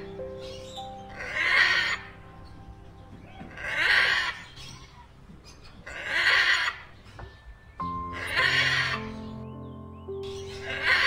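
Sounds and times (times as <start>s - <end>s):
macaw squawking: 0.0s - 7.2s, 7.8s - 11.0s
faint music: 0.0s - 11.0s.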